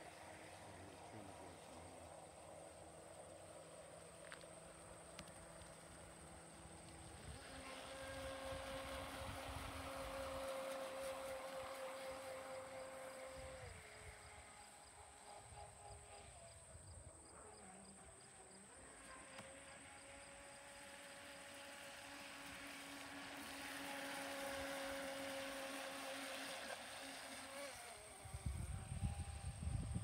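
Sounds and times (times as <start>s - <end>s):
model boat motor whining: 0.0s - 30.0s.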